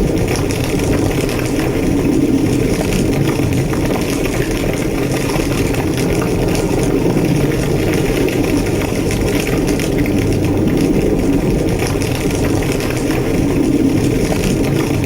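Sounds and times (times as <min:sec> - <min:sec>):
faint fire crackles: 0:00.0 - 0:15.0
fire roaring: 0:00.0 - 0:15.0.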